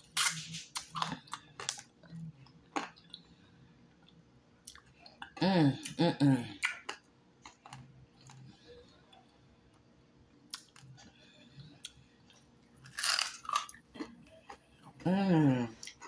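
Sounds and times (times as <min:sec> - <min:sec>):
chewing crispy food: 0:00.0 - 0:05.4, 0:06.6 - 0:15.1.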